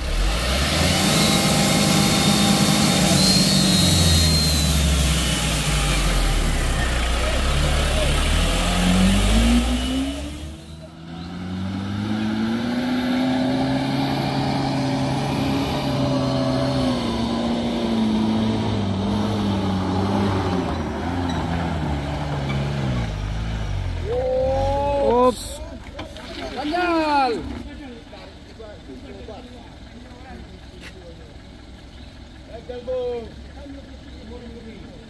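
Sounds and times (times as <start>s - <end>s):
engine pulling under load: 0.0s - 35.0s
heavy truck engine: 0.0s - 35.0s.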